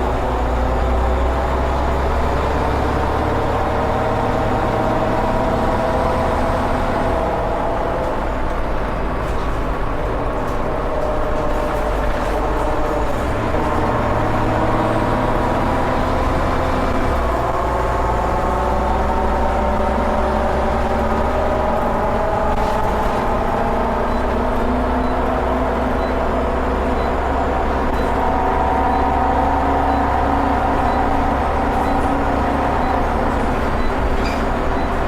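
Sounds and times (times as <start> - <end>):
bus engine accelerating: 0.0 - 35.0.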